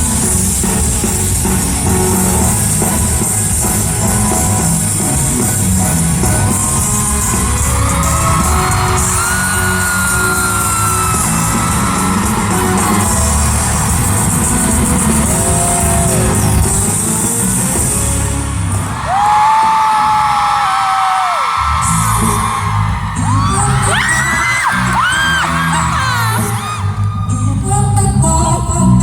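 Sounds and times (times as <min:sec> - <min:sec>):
audience screaming and cheering: 0:00.0 - 0:29.0
live pop music with bass beat: 0:00.0 - 0:29.0.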